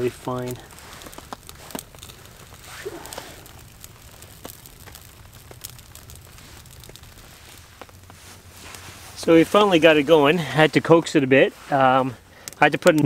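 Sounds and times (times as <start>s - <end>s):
sharp pops from fire: 0.0s - 10.1s, 11.7s - 13.0s
campfire crackling: 0.0s - 13.0s.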